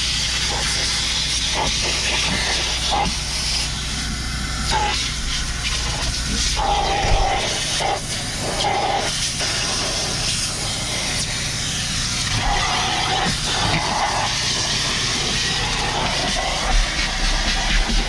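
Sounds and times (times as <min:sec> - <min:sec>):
shop vacuum running: 0:00.0 - 0:18.0.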